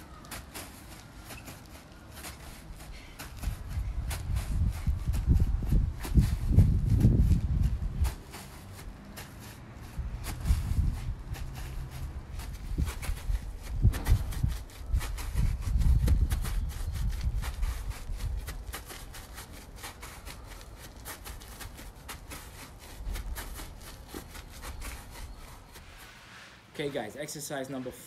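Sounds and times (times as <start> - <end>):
footsteps on artificial grass: 0.0 - 28.0.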